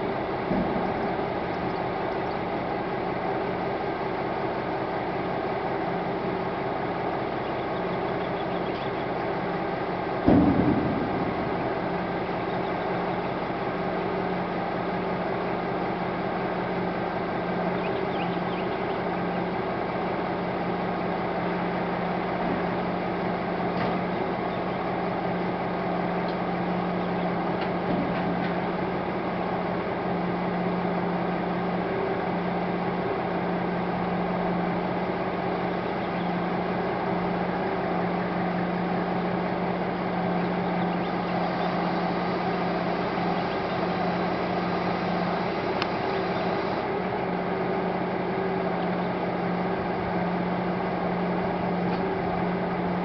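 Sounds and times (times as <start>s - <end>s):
engine humming steadily: 0.0s - 53.0s.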